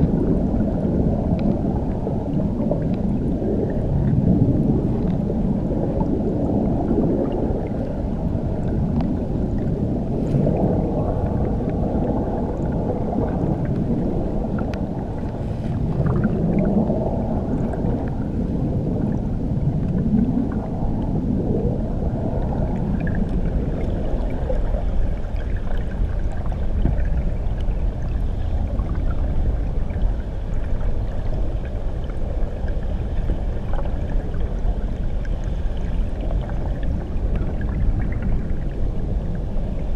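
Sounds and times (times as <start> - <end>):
underwater rumble of churning water: 0.0 - 39.9.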